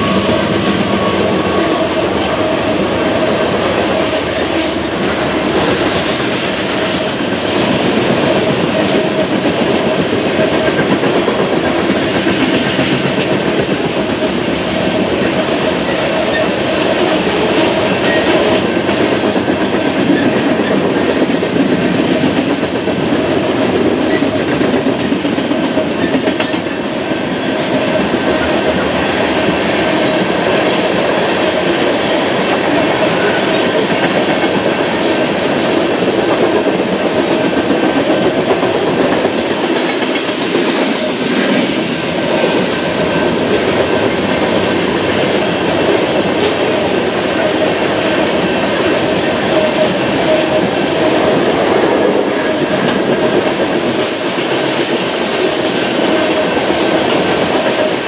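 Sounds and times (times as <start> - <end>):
train wheels clicking over rail joints: 0.0 - 58.0.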